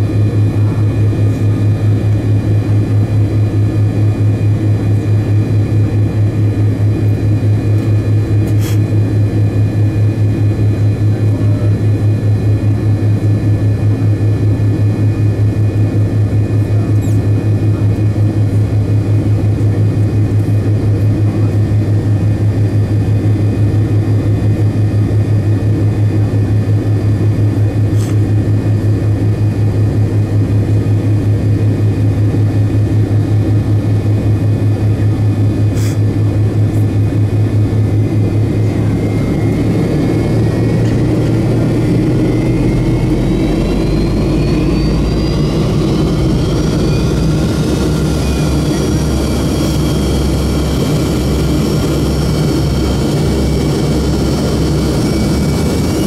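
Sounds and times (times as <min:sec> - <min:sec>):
jet engine whine rising: 0:00.0 - 0:56.0
jet engines humming from cabin: 0:00.0 - 0:56.0.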